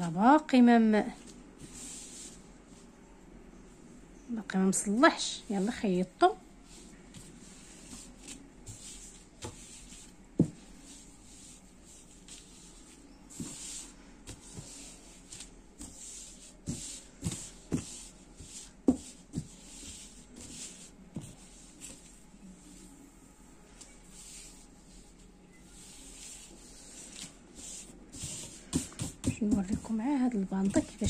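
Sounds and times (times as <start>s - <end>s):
fabric rustling: 4.8s - 31.0s.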